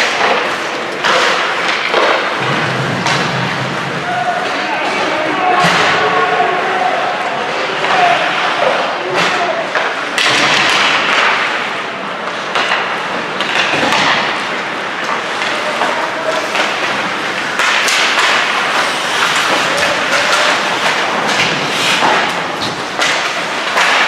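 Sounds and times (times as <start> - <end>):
hockey sticks and puck thuds: 0.0 - 6.4, 7.3 - 24.0
arena noise: 0.0 - 24.0.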